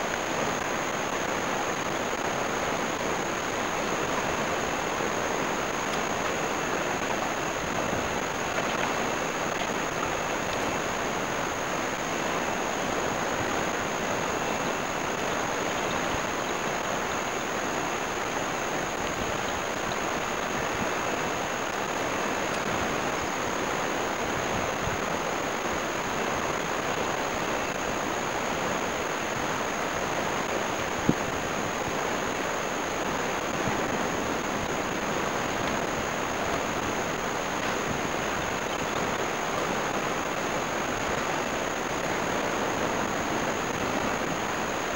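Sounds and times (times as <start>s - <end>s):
ocean surf on beach: 0.0s - 44.9s.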